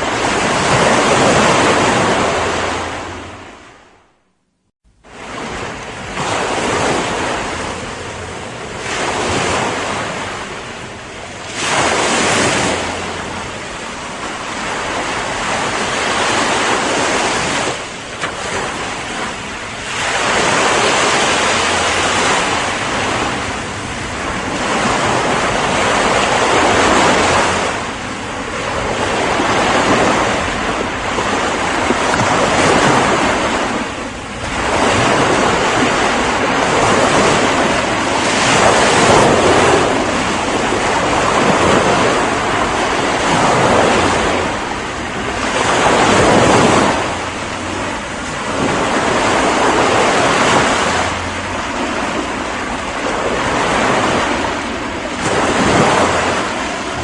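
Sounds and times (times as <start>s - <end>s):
ocean waves breaking on shore: 0.0s - 4.3s, 4.9s - 57.0s.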